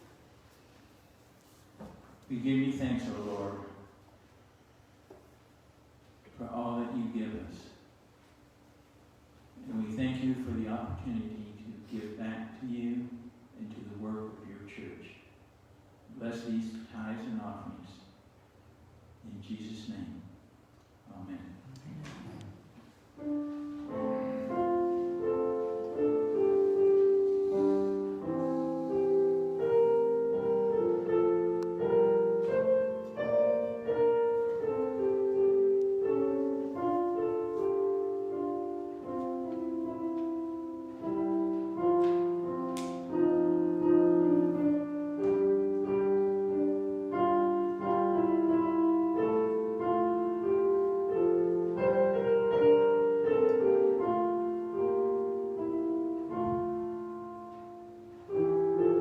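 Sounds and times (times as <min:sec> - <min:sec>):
slow piano piece: 0:00.0 - 0:15.2, 0:21.3 - 0:59.0.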